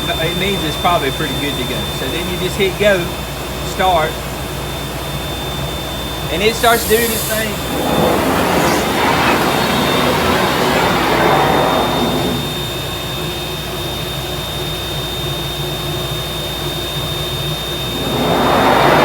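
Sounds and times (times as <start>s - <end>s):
cnc router spindle whine: 0.0s - 19.0s.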